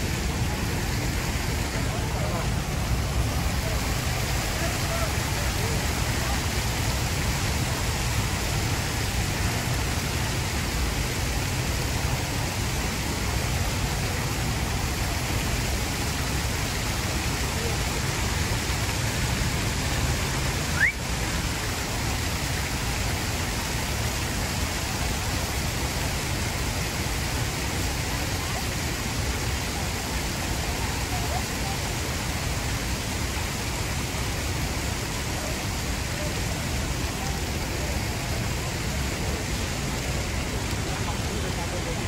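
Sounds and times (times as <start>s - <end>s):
steady outdoor rushing noise: 0.0s - 42.0s.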